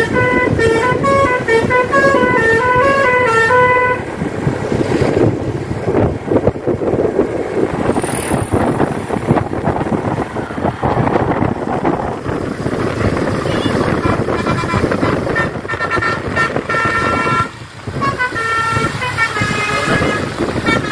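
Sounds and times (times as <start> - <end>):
engine and tyre noise: 0.0 - 20.9
road traffic rumble: 0.0 - 20.9
wind buffeting microphone: 0.0 - 20.9.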